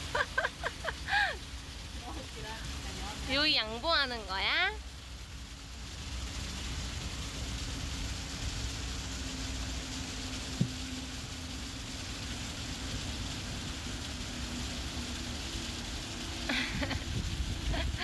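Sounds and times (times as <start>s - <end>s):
hiss: 0.0s - 3.6s, 4.8s - 18.0s.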